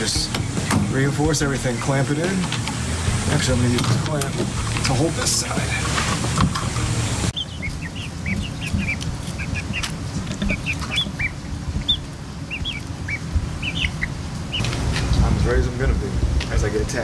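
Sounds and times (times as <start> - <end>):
chicks peeping: 0.0 - 3.5, 4.1 - 14.8
hissing background: 0.0 - 17.0.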